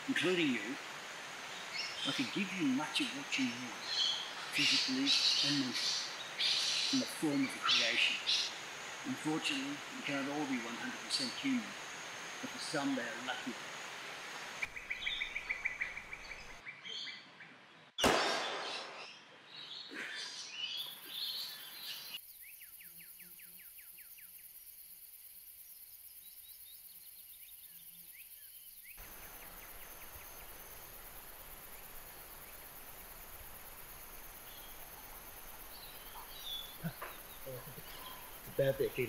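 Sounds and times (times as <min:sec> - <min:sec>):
steady background hiss: 0:00.0 - 0:16.6, 0:20.0 - 0:39.0
insects: 0:00.0 - 0:16.7, 0:18.0 - 0:39.0
birds chirping: 0:00.0 - 0:23.0, 0:26.6 - 0:39.0.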